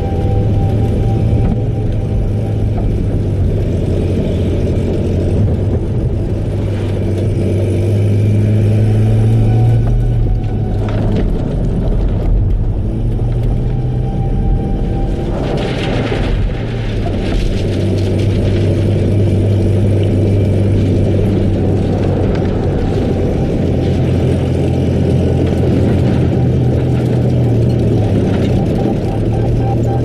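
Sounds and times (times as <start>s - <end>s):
engine running with low rumble: 0.0s - 30.0s.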